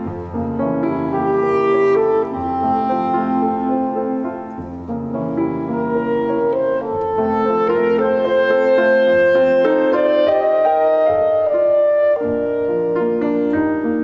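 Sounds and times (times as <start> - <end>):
clarinet melody: 0.0 - 14.0
piano chords: 0.0 - 14.0.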